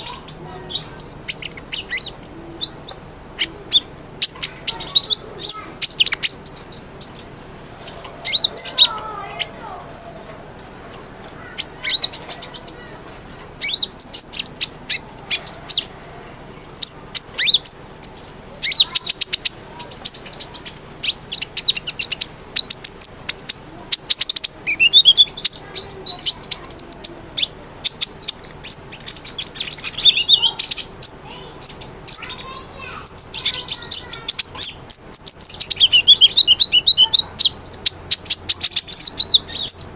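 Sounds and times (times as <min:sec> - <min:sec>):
sunbird singing: 0:00.0 - 0:39.9.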